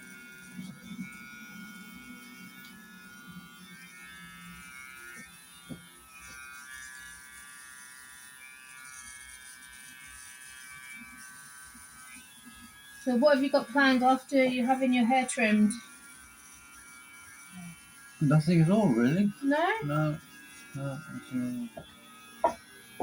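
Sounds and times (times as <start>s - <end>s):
hair clippers humming: 0.0s - 23.0s.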